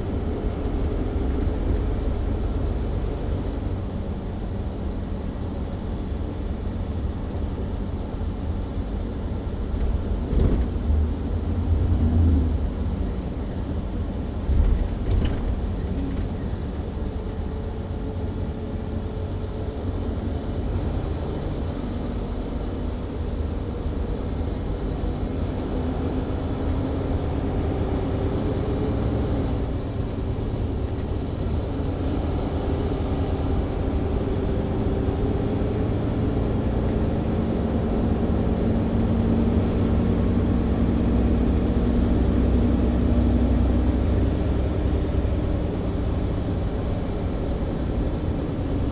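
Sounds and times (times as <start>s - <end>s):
bus engine drone: 0.0s - 48.9s
road rumble: 0.0s - 48.9s.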